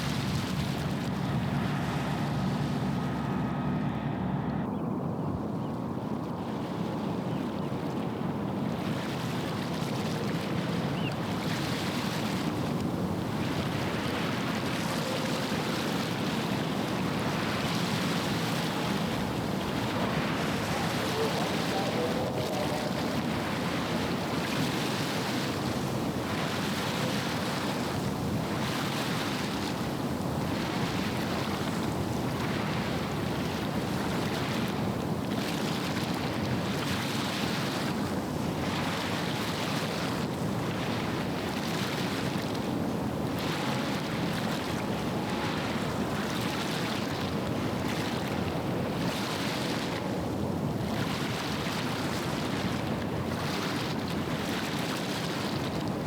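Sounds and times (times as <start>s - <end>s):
small waves washing onto shore: 0.0s - 3.8s, 5.8s - 56.0s
wind on microphone: 4.7s - 56.0s.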